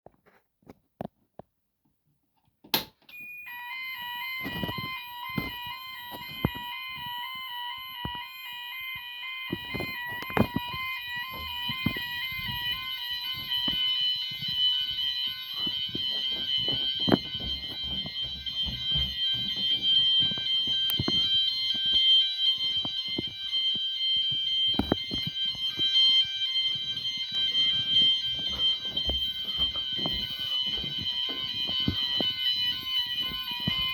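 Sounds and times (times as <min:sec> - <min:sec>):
alternating two-tone alarm signal: 0:03.1 - 0:33.9
steady high alarm tones: 0:03.1 - 0:33.9.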